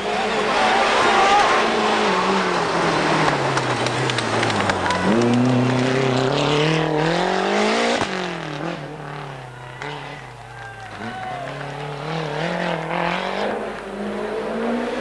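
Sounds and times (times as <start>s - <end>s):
rally car engine: 0.0s - 15.0s.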